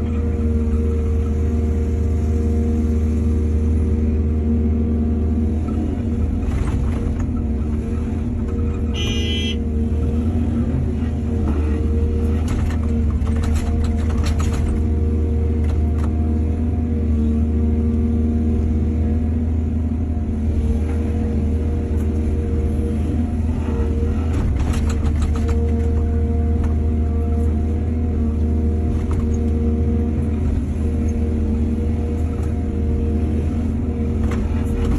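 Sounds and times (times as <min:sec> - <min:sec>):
excavator diesel engine under load: 0:00.0 - 0:34.9.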